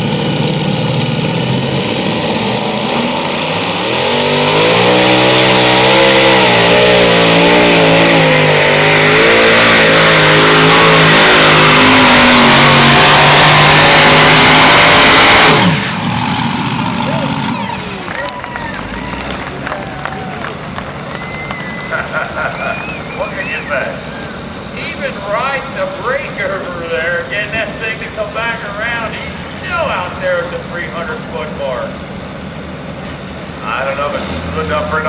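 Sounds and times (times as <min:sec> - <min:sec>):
pulling tractor engines roaring: 0:00.0 - 0:35.0.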